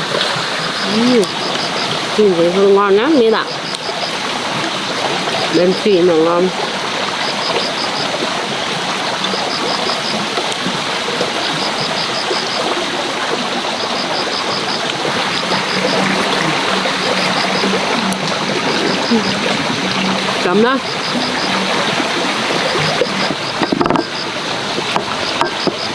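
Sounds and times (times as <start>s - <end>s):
flowing water rushing: 0.0s - 25.9s.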